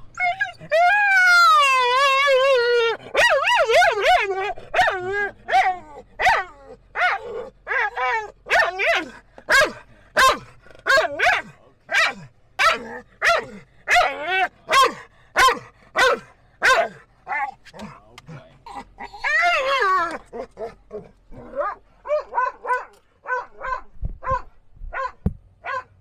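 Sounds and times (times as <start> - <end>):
dog whining yelps: 0.0 - 17.6, 18.7 - 25.9.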